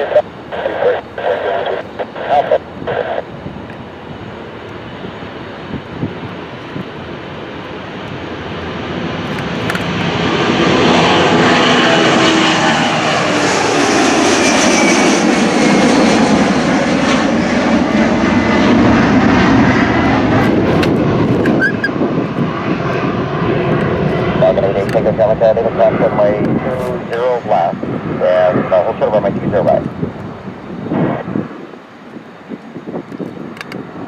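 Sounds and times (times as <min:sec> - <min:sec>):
airplane engines passing by: 0:00.0 - 0:34.0.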